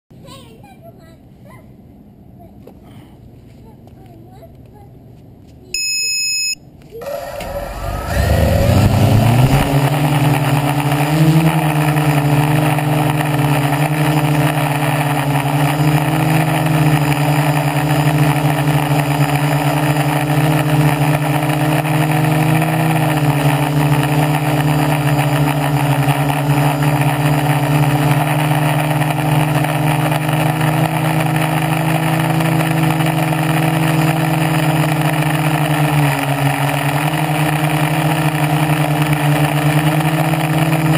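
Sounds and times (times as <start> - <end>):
quadcopter motors buzzing: 7.0 - 40.9.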